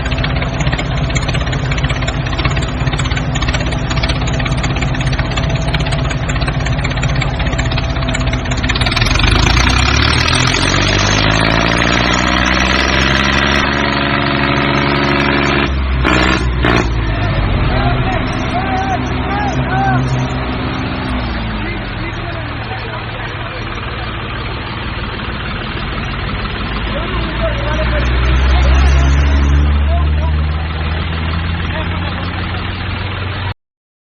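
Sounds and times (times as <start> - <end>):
construction vehicle engine revving: 0.0 - 33.6.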